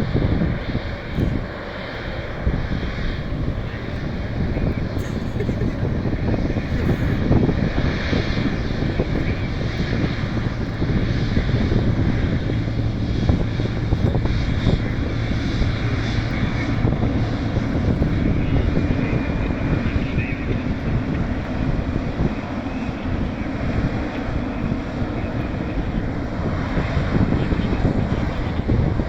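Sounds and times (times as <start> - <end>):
jet engine roar: 0.0 - 29.0.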